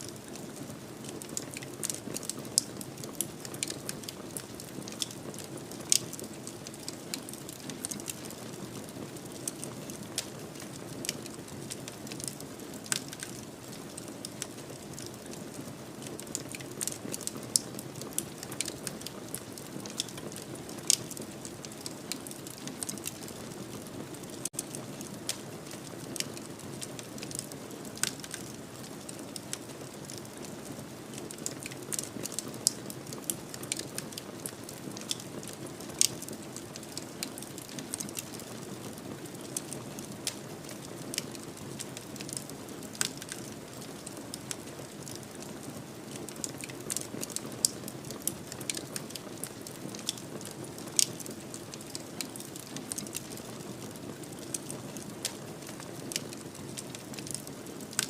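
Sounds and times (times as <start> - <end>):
fire popping and crackling: 0.1 - 58.0.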